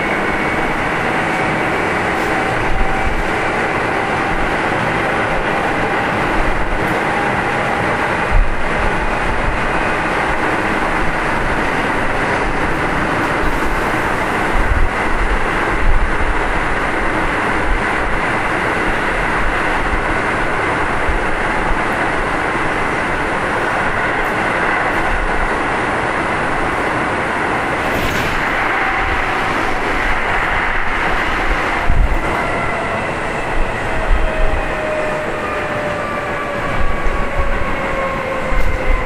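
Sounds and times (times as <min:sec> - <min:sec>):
electric train running: 0:00.0 - 0:39.0.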